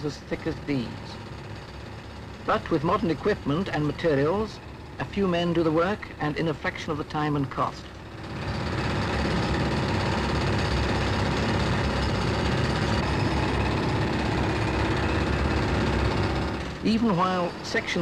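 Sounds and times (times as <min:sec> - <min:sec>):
machinery rumble and rattle: 0:00.0 - 0:18.0.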